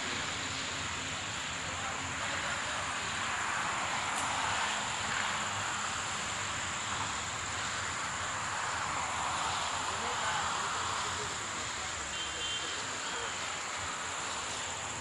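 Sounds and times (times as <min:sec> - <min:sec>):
distant motorway traffic: 0:00.0 - 0:15.0.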